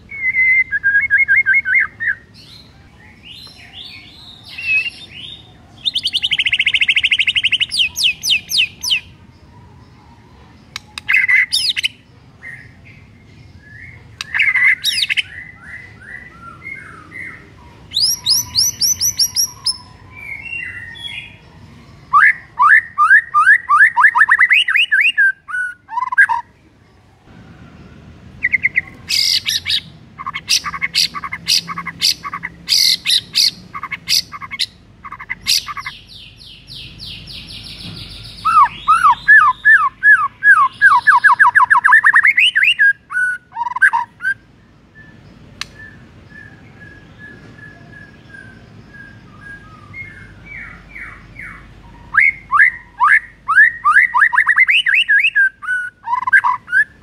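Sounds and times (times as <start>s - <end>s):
bird singing whistled phrases: 0.0s - 2.3s, 3.2s - 9.1s, 13.6s - 21.4s, 22.1s - 26.5s, 28.4s - 57.0s.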